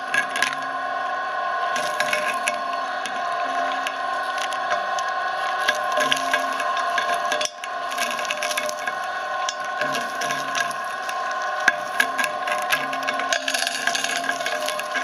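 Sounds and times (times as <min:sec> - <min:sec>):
blades crunching hard candy: 0:00.0 - 0:00.8, 0:01.7 - 0:15.0
shredder motor whine: 0:00.0 - 0:15.0.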